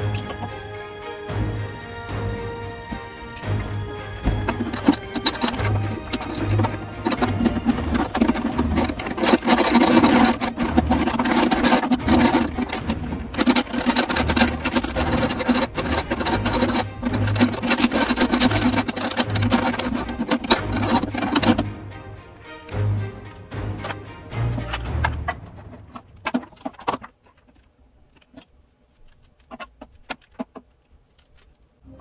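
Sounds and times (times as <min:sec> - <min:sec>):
fingers scraping metal threads: 0:00.0 - 0:21.7, 0:22.6 - 0:32.0.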